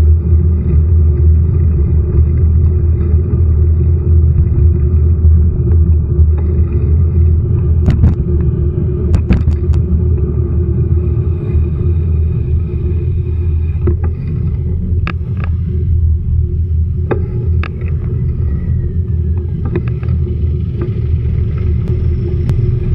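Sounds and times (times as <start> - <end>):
faint steady hum: 0.0 - 22.9
vehicle engine rumbling: 0.0 - 22.9.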